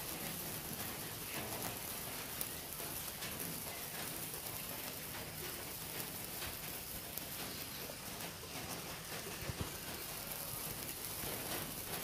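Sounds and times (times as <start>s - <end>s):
sparklers fizzing and crackling: 0.0s - 12.0s.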